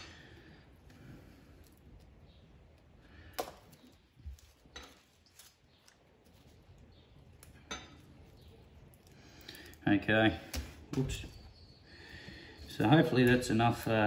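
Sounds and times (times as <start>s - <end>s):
dry onion skin rustling: 0.4s - 14.0s.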